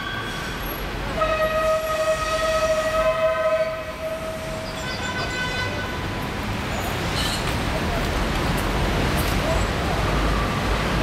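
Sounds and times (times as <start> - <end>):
tram running rumble: 0.0 - 11.0.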